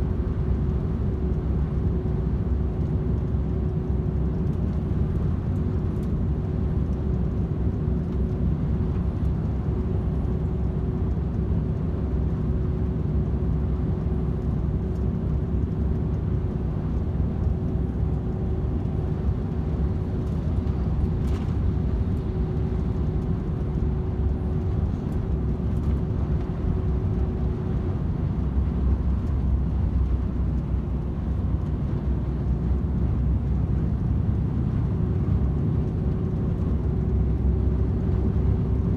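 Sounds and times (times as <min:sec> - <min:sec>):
road and tyre noise: 0:00.0 - 0:38.9
truck engine drone: 0:00.0 - 0:38.9.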